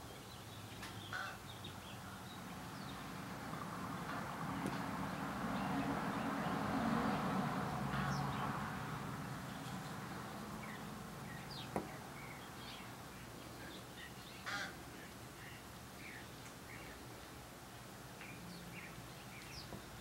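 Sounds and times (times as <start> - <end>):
small birds chirping: 0.0 - 7.0, 7.6 - 20.0.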